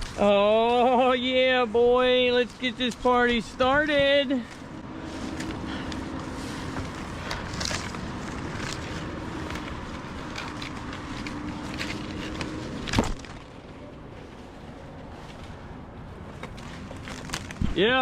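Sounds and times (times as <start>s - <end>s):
rustles and light clicks: 2.2s - 18.0s.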